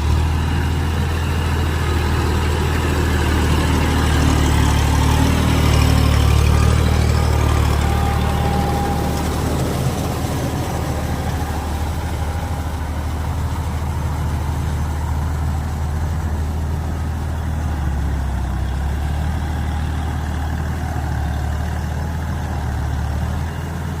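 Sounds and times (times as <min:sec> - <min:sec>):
tractor diesel engine humming: 0:00.0 - 0:24.0.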